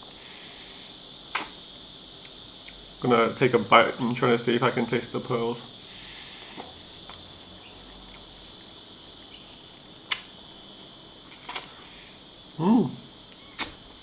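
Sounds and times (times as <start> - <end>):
high-pitched background hiss: 0.0 - 14.0.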